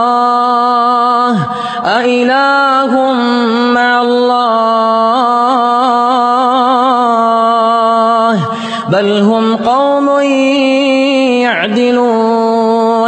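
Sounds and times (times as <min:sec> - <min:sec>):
person reciting melodically: 0:00.0 - 0:13.0.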